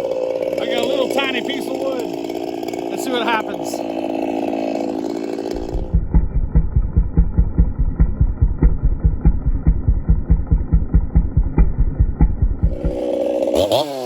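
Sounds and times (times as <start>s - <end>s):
muffled chainsaw engine pulsing: 0.0s - 14.0s.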